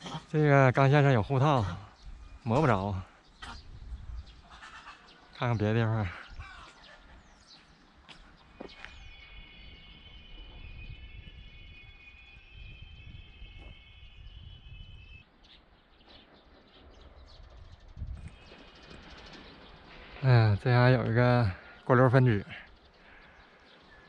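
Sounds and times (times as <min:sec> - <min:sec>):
small birds chirping: 0:00.0 - 0:24.0
low rumble of wind: 0:00.6 - 0:04.8, 0:05.4 - 0:23.0.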